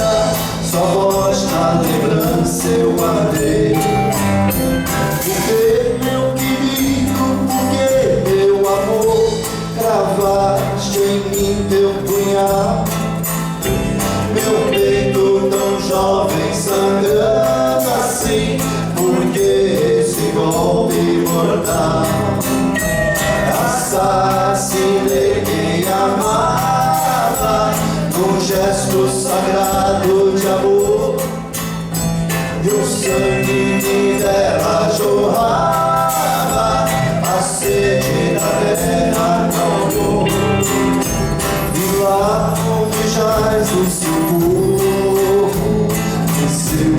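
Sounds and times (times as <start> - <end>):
live band music: 0.0 - 46.9.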